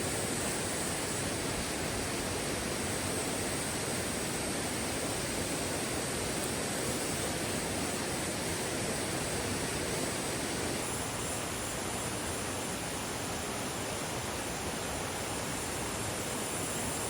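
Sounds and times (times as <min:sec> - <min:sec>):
insects chirring: 0:00.0 - 0:17.0
stream running: 0:00.0 - 0:17.0.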